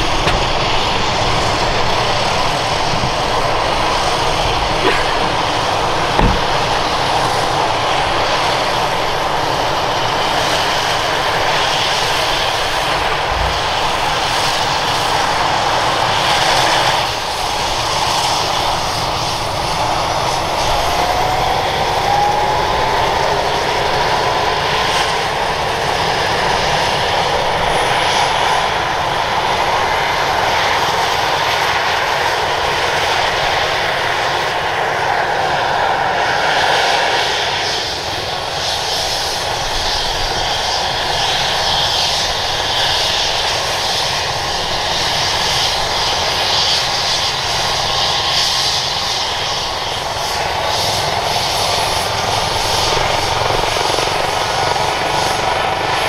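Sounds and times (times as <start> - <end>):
helicopter engines and rotors: 0.0 - 56.0.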